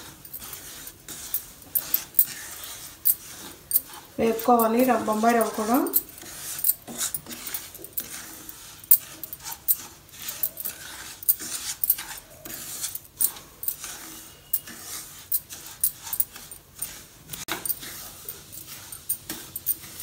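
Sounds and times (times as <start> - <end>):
wooden spatula scraping pan: 0.0 - 20.0.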